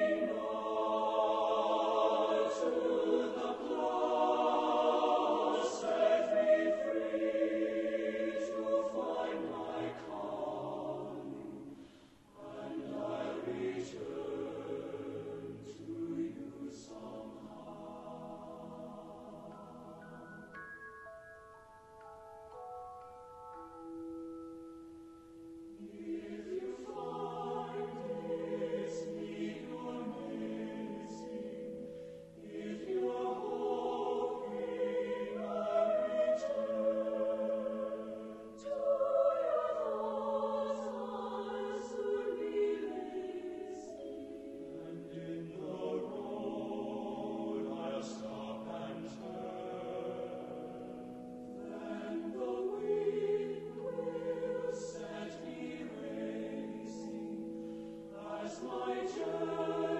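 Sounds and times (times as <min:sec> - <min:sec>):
choir singing held notes: 0:00.0 - 0:20.8, 0:25.4 - 0:59.9.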